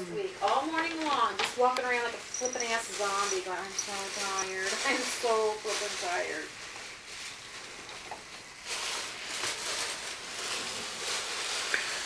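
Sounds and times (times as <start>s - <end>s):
rustling: 0.5s - 12.0s.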